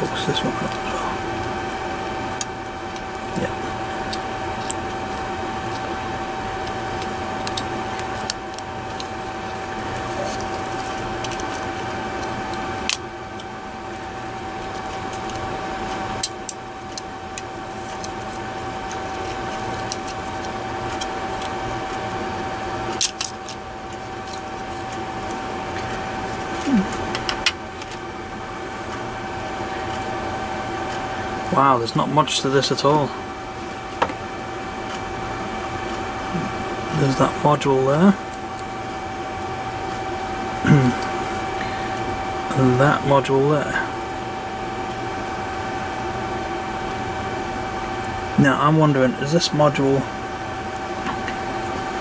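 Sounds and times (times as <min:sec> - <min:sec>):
constant whine: 0:00.0 - 0:52.0
steady background hum: 0:00.0 - 0:52.0.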